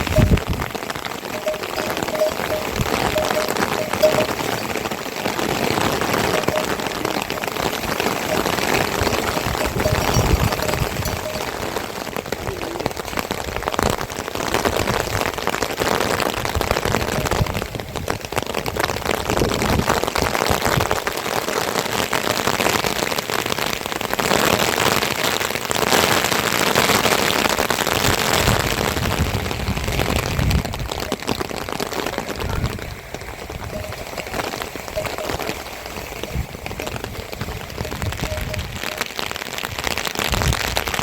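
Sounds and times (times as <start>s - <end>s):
heavy rain on a surface: 0.0s - 41.0s.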